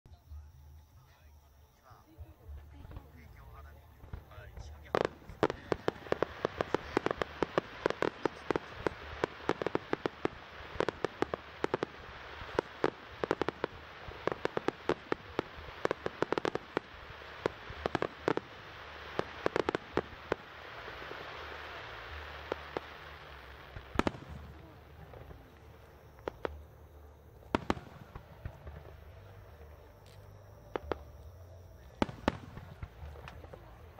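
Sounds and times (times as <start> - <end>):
fireworks bursting: 2.0 - 33.9
fireworks hiss: 4.0 - 26.8, 27.4 - 31.2, 31.8 - 33.9.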